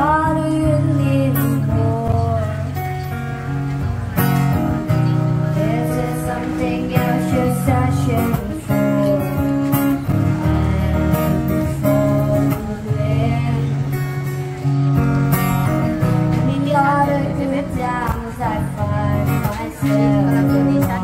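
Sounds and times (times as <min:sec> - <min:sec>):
girl singing into a microphone: 0:00.0 - 0:02.8, 0:05.5 - 0:14.7, 0:16.0 - 0:21.0
acoustic guitar strumming chords: 0:00.0 - 0:21.0.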